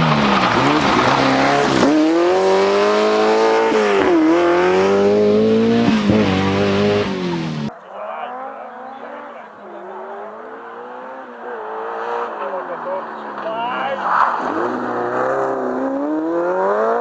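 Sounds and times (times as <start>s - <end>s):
rally car engine at high revs: 0.0s - 7.7s, 8.3s - 17.0s.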